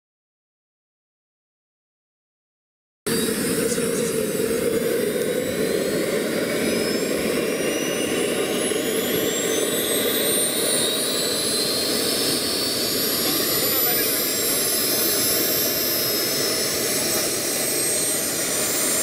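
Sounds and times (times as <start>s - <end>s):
model jet turbine whine: 3.1s - 19.0s.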